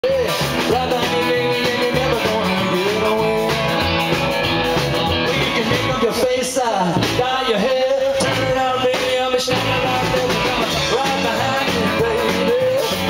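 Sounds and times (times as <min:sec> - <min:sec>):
electric guitar: 0:00.0 - 0:13.0
rock and roll band playing: 0:00.0 - 0:13.0.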